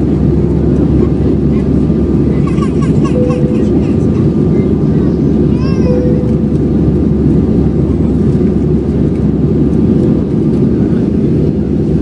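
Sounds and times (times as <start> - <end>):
jet engines roaring in cabin: 0.0 - 12.0.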